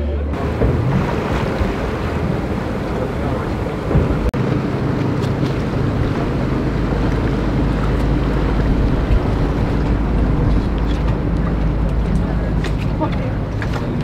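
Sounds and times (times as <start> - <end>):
boat engine running at low speed: 0.0 - 14.0
wind on microphone: 0.3 - 14.0.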